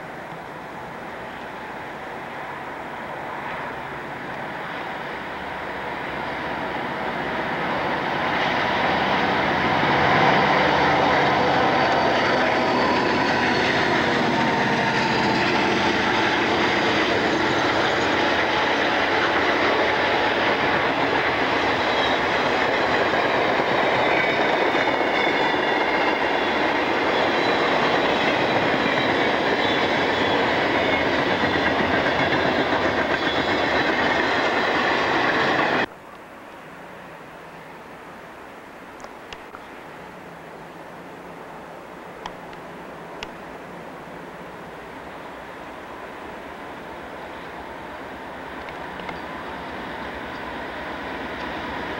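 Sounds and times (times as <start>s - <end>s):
diesel freight locomotives passing: 0.0s - 51.9s.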